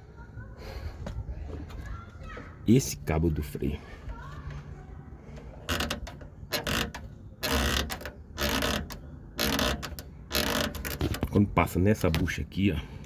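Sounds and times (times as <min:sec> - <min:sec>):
brake cable creaking and scraping: 0:01.1 - 0:13.0.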